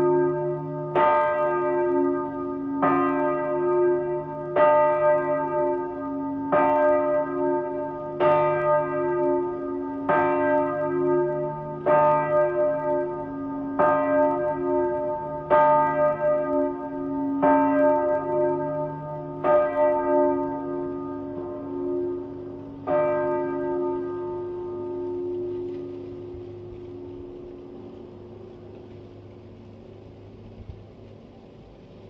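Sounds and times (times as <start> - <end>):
small church bell ringing: 0.0 - 29.6.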